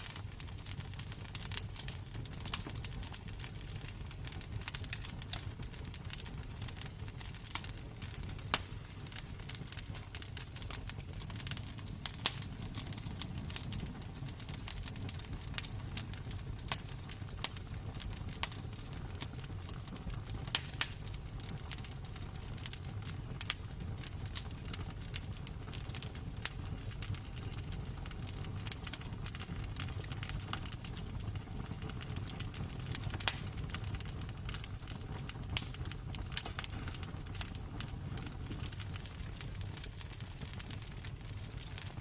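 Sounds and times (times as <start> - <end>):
low fire rumble: 0.0 - 42.0
wood fire crackling and popping: 0.0 - 42.0.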